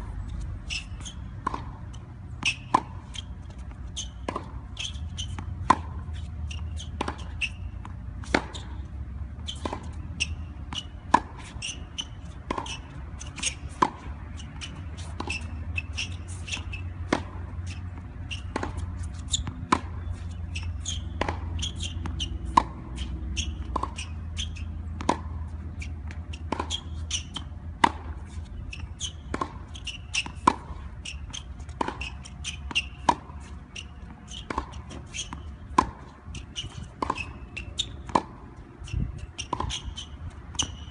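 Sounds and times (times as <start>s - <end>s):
tennis ball bouncing: 0.0s - 40.9s
racket striking tennis ball: 0.2s - 40.9s.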